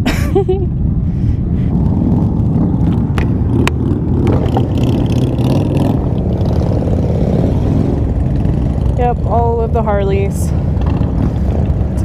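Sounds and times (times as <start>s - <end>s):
motorcycle engines droning: 0.7s - 12.0s.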